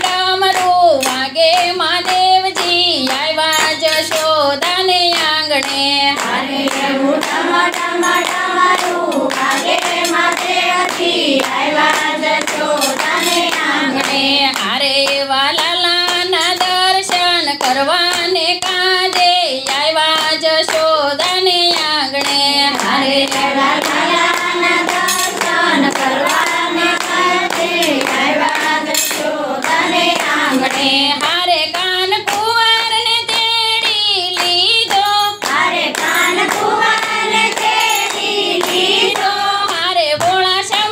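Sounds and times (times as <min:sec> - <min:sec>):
group singing devotional song: 0:00.0 - 0:40.9
rhythmic hand-clapping: 0:00.0 - 0:40.9.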